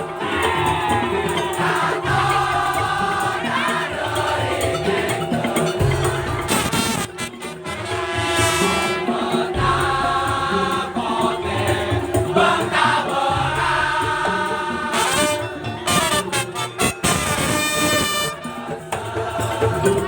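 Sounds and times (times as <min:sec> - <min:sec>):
sustained melody line: 0:00.0 - 0:19.2
drums beating steady rhythm: 0:00.0 - 0:20.0.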